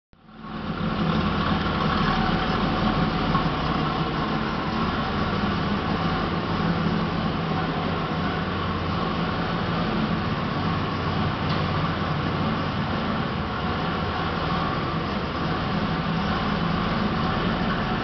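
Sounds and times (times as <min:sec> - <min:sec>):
car engine idling: 0:00.2 - 0:18.0.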